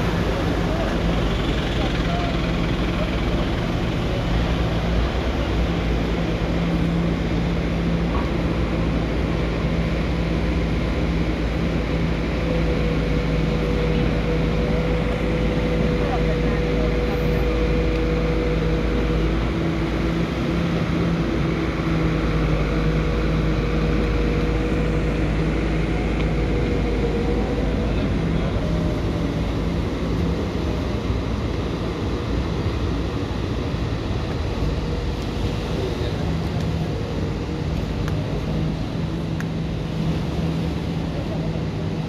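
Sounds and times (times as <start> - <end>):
constant low hum: 0.0 - 42.0.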